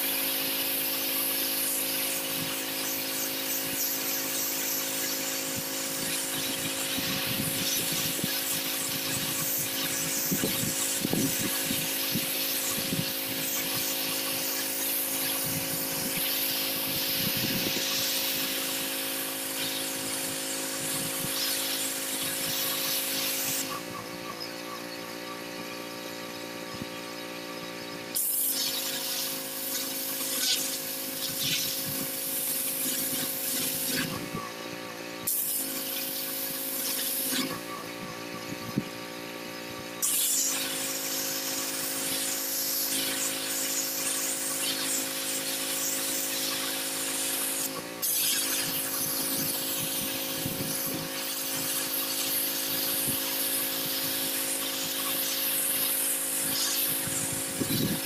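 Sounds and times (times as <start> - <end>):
water jet blasting concrete: 0.0 - 27.4, 28.0 - 58.0
pressure washer machine hum: 0.0 - 58.0.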